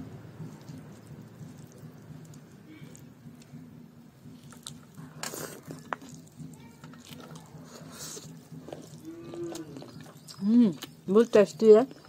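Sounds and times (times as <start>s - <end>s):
low steady hum: 0.0s - 12.0s
wet chewing and mouth smacks: 0.4s - 12.0s.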